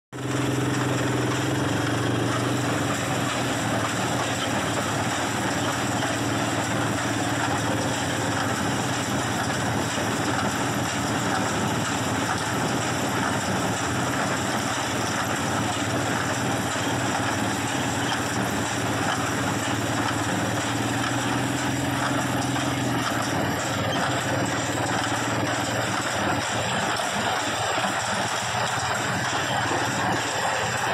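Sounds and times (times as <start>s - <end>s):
tractor running: 0.1s - 30.9s
hay baler baling: 0.2s - 30.9s.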